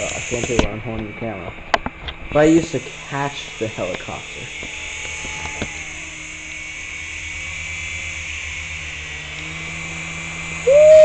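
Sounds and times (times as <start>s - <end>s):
electric motor whine: 0.0s - 11.0s
rotor blades buzzing: 0.0s - 11.0s.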